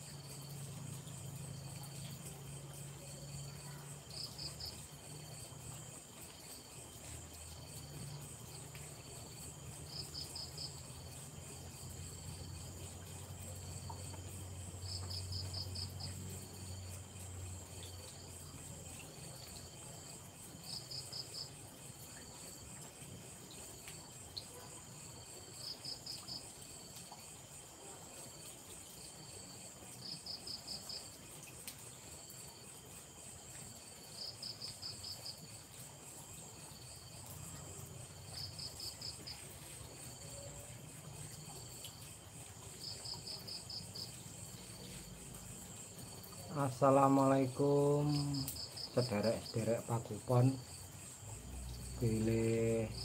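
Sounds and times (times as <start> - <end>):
crickets chirping: 0.0 - 53.0.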